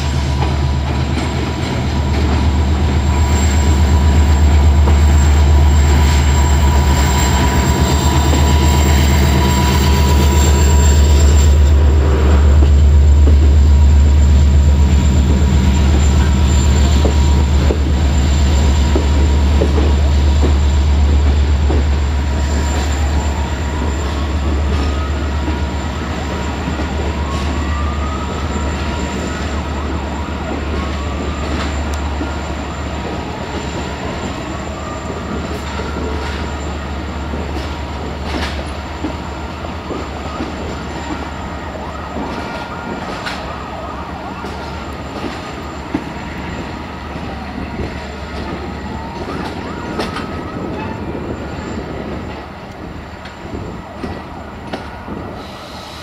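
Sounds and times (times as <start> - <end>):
diesel locomotive engine drone: 0.0 - 56.0
train coaches rolling by: 0.0 - 56.0.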